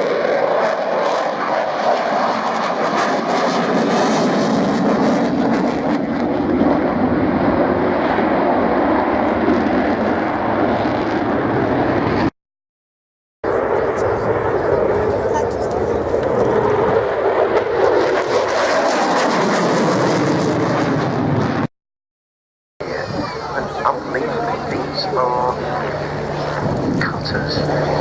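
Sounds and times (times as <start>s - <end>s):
aircraft engine in flight: 0.0s - 12.3s, 13.4s - 21.7s, 22.8s - 28.0s.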